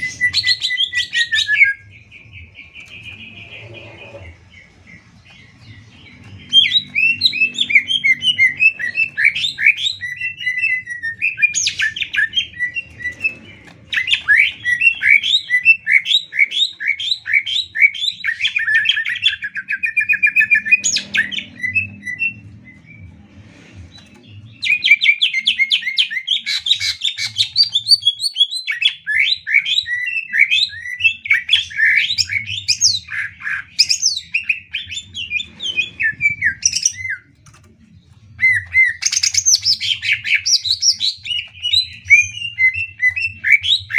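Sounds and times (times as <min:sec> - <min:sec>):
bird singing chirps and trills: 0:00.0 - 0:43.9.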